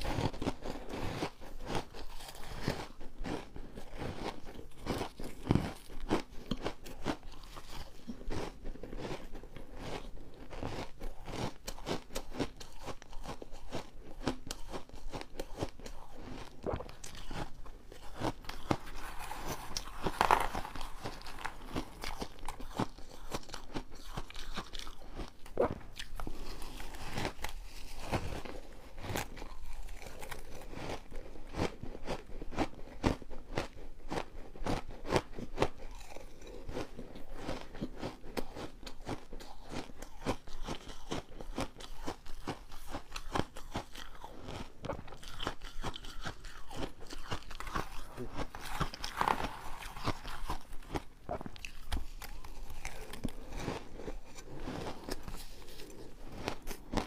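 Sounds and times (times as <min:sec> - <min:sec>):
person chewing ice: 0:00.0 - 0:57.0.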